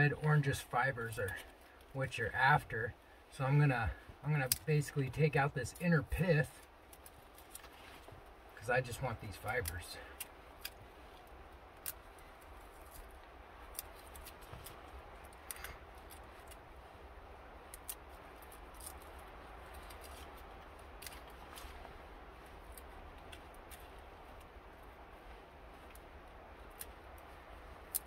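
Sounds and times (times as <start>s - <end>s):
dry plant stalk snapping and crackling: 4.2s - 5.0s, 5.7s - 28.0s.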